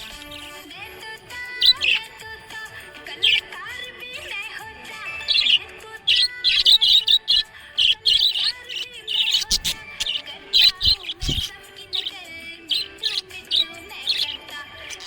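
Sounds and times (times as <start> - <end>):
background music: 0.0 - 15.0
budgerigars twittering: 0.0 - 15.0.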